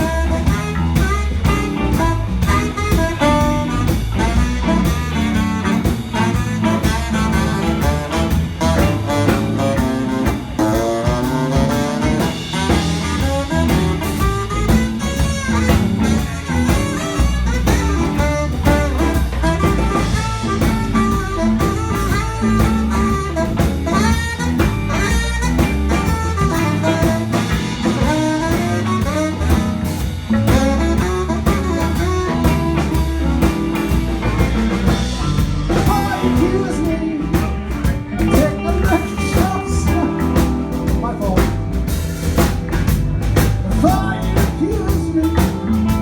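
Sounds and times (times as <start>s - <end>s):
blues band playing: 0.0s - 46.0s.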